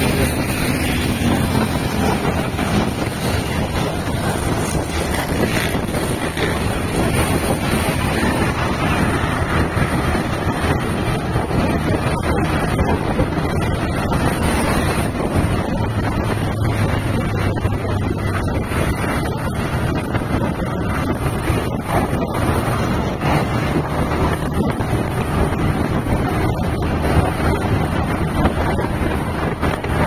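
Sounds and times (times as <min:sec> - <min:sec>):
vehicle engine and road noise: 0:00.0 - 0:30.0
wind rush over microphone: 0:00.0 - 0:30.0.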